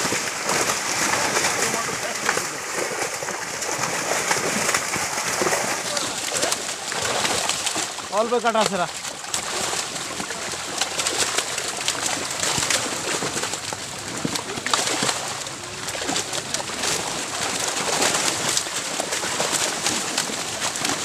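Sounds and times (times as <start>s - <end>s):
fish thrashing and splashing in water: 0.0s - 21.0s.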